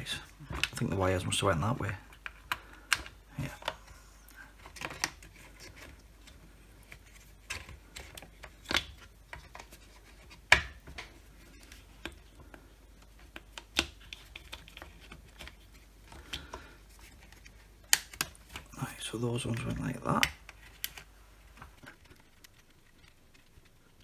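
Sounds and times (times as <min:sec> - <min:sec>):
hands rubbing and scraping plastic: 0:00.0 - 0:24.0.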